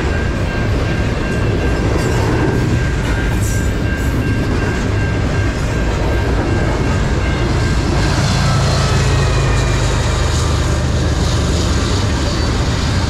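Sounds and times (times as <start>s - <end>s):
diesel locomotive hum: 0.0s - 13.0s
freight train wheels on rails: 0.0s - 13.0s.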